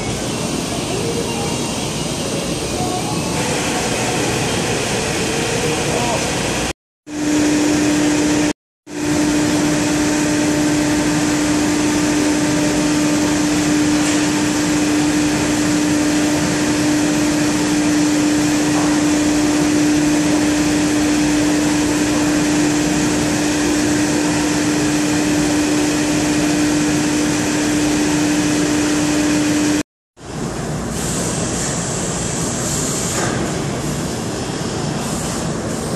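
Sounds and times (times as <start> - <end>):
loud even machine noise: 0.0 - 35.9.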